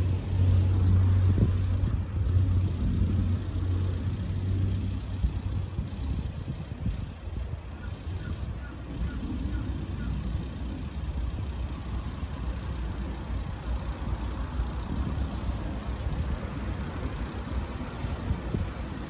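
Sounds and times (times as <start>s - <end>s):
cars passing on road: 0.0s - 19.0s.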